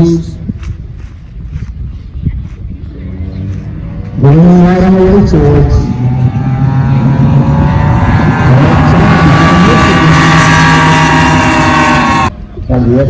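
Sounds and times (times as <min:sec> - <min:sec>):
boat engines droning: 0:02.0 - 0:13.0.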